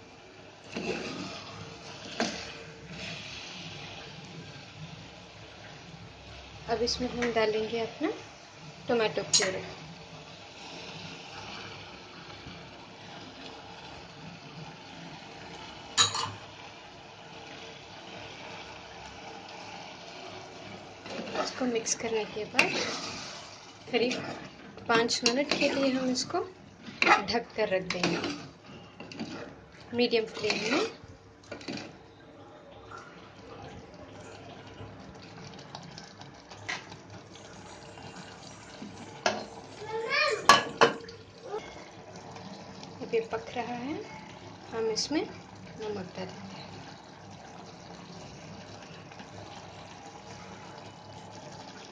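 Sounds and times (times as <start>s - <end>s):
cooking pot hissing: 0.0s - 31.9s, 35.1s - 51.9s
gravy bubbling and sizzling: 0.0s - 51.9s.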